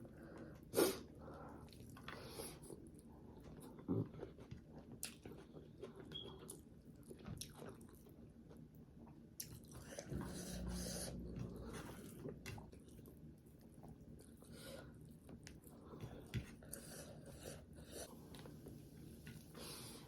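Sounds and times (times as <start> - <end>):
person chewing food: 0.3 - 20.0.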